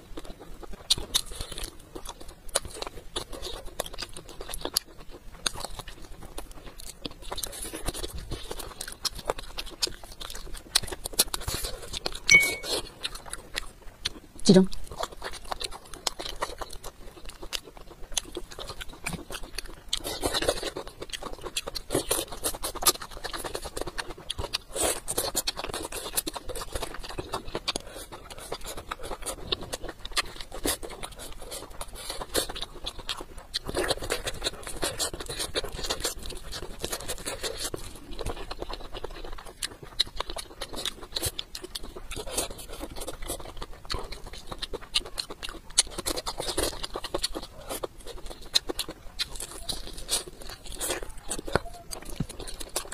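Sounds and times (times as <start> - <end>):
person chewing with lip smacks: 0.0 - 52.9.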